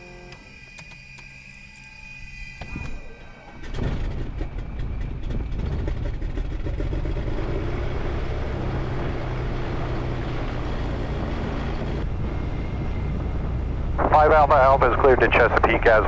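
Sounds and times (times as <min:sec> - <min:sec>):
aircraft engine starting and idling: 0:00.0 - 0:16.0.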